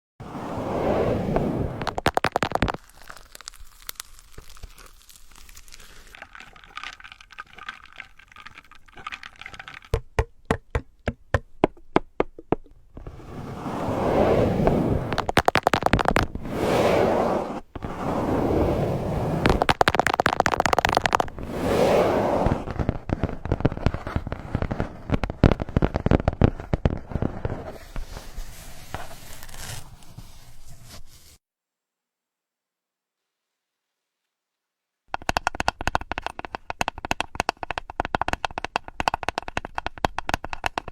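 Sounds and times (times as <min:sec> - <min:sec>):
crinkling and scratching: 0:01.5 - 0:11.0, 0:12.6 - 0:16.6, 0:17.3 - 0:31.4, 0:35.1 - 0:40.9.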